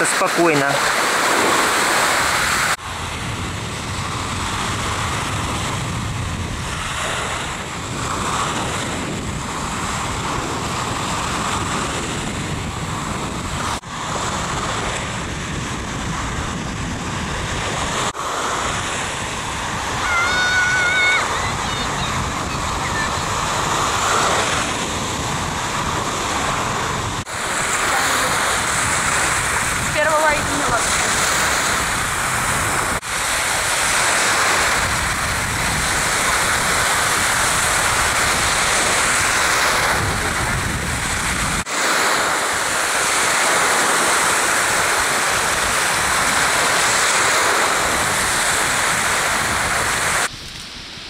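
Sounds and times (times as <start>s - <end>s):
waves washing on sandy shore: 0.0s - 51.0s
wind buffeting microphone: 0.8s - 51.0s.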